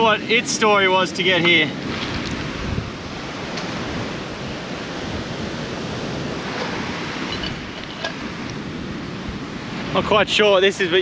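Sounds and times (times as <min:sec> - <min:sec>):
surf rushing: 0:00.0 - 0:11.0
wind blowing across microphone: 0:00.0 - 0:11.0.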